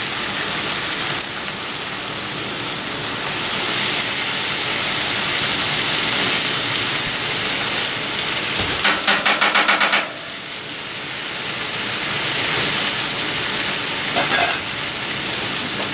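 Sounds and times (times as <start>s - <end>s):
wine sizzling on hot griddle: 0.0s - 15.9s.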